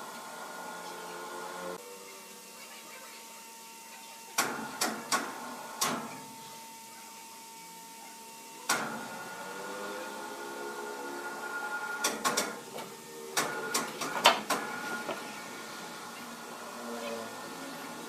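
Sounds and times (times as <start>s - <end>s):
sawmill machinery humming: 0.0s - 18.0s.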